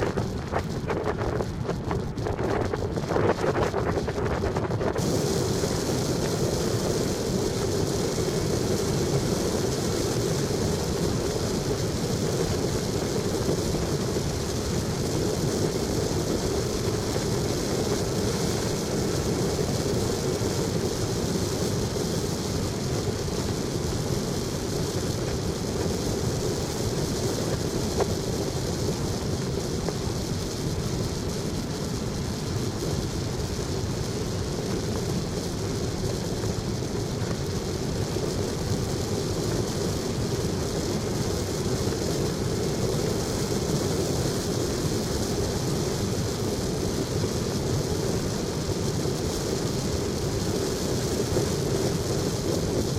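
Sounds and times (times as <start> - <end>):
vehicle driving on road: 0.0 - 52.9.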